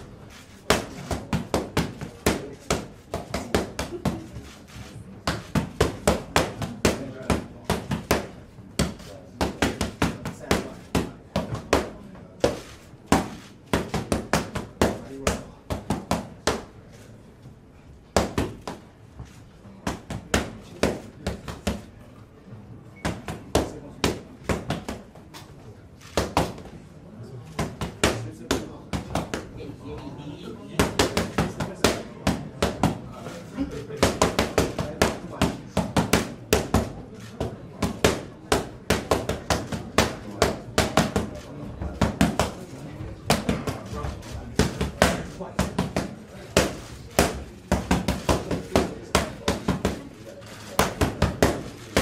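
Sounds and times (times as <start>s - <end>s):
boxing gloves smacking mitts: 0.0s - 16.8s, 18.1s - 21.9s, 23.1s - 26.8s, 34.0s - 50.1s, 50.7s - 52.0s.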